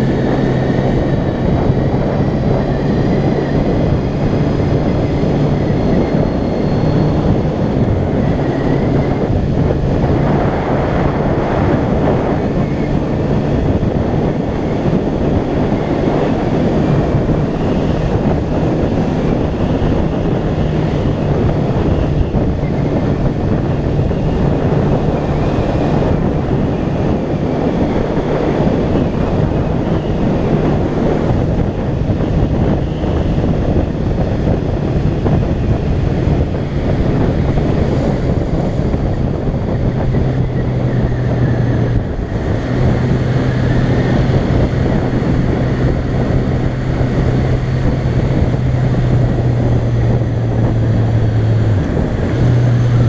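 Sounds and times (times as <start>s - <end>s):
motorcycle engine cruising: 0.0s - 53.0s
wind rush on microphone: 0.0s - 53.0s.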